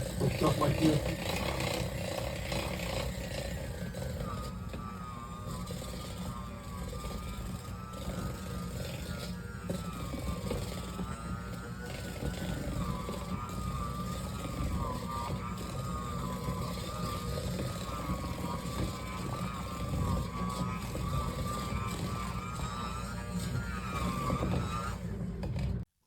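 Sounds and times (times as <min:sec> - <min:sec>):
electric hand mixer whining: 0:00.0 - 0:25.9.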